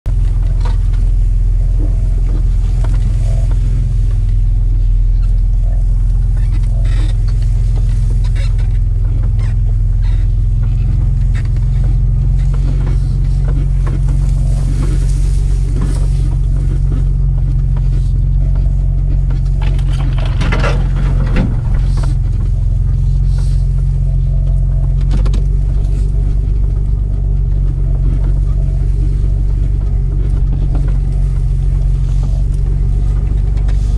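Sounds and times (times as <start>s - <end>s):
engine droning: 0.0s - 33.9s
vehicle knocks and rattles: 0.0s - 33.9s.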